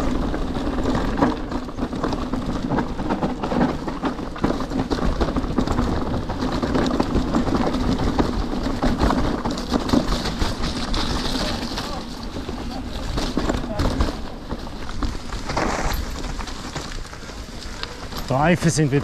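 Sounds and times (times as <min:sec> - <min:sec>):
bike clattering over bumps: 0:00.0 - 0:19.0.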